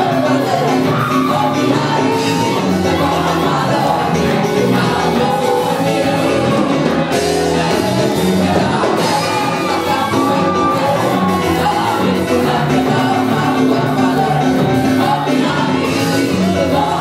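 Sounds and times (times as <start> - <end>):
gospel band playing with singing: 0.0 - 17.0.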